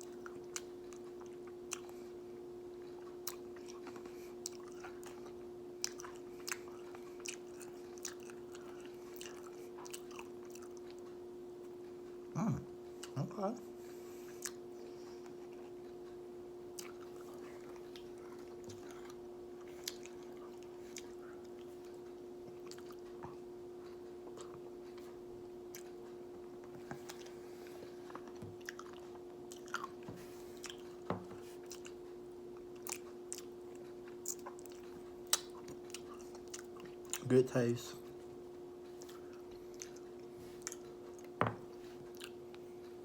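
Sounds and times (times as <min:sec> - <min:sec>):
person chewing and crunching: 0:00.0 - 0:13.2, 0:14.2 - 0:38.2, 0:38.8 - 0:42.8
steady hum: 0:00.0 - 0:43.0.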